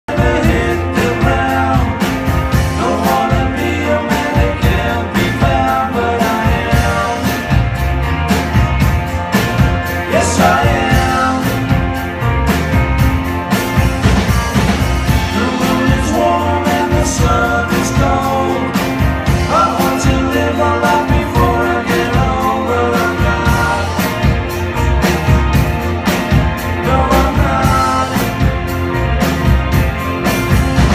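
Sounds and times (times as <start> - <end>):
bass guitar: 0.0 - 30.9
drum kit: 0.0 - 30.9
electric guitars: 0.1 - 30.9.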